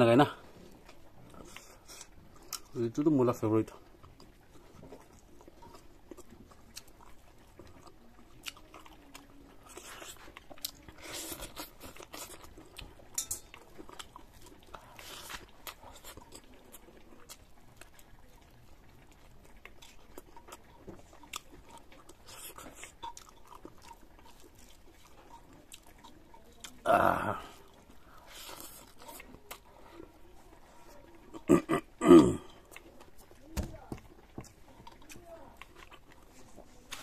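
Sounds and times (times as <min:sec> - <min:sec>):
chewing rice: 0:00.0 - 0:37.0.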